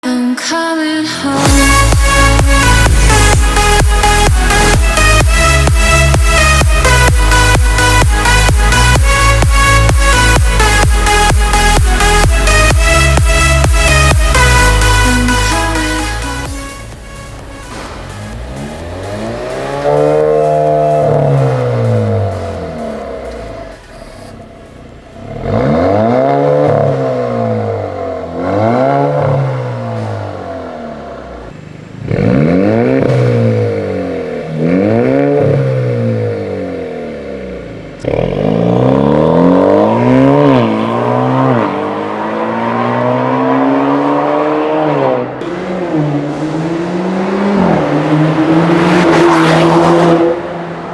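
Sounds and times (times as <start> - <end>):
car engine revving: 1.1 - 50.9.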